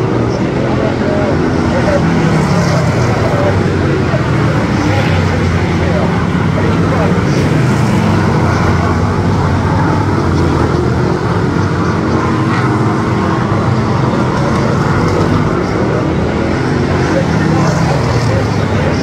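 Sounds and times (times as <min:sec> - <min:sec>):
racing car engine running: 0:00.0 - 0:19.0.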